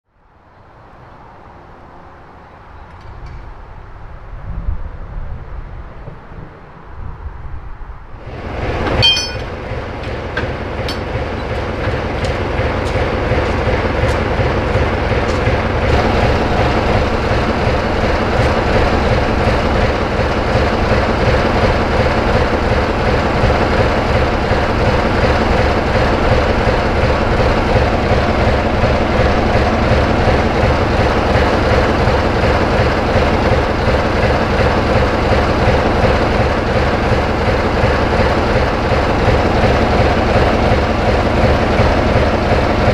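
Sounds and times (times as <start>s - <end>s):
diesel locomotive engine rumbling: 0.2s - 42.9s.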